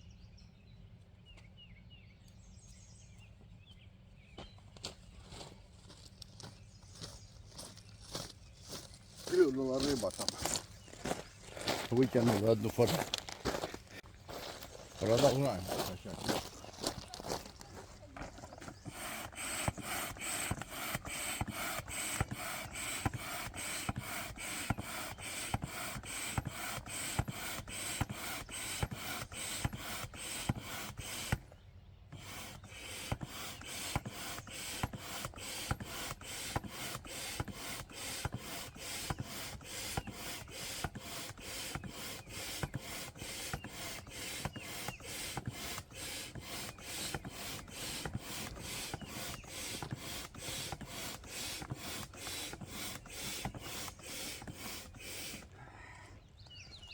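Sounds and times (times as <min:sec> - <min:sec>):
manual air pump rasping: 0:05.3 - 0:56.2.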